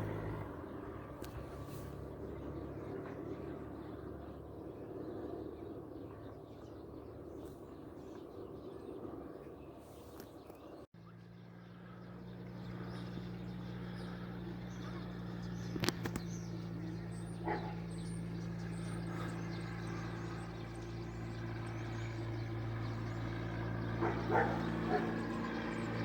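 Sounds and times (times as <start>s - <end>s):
low engine drone: 0.0s - 10.0s, 10.9s - 26.0s
distant propeller aircraft droning: 0.0s - 26.0s.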